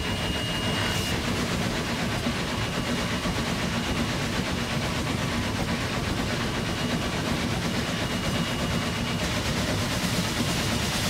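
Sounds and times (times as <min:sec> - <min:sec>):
steam locomotive running: 0:00.0 - 0:11.0.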